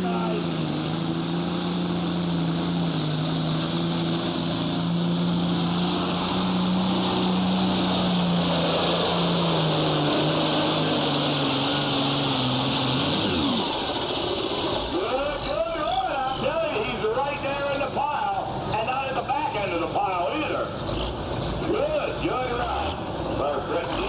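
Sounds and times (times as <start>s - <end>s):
diesel tractor engine high-revving: 0.0s - 24.0s.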